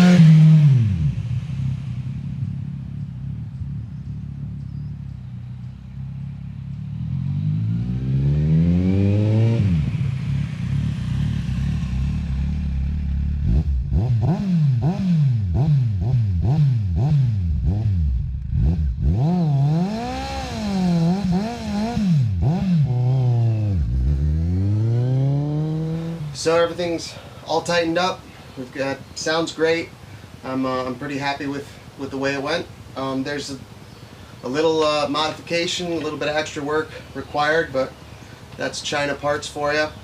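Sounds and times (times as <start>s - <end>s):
motorcycle engine idling and revving: 0.0s - 40.0s.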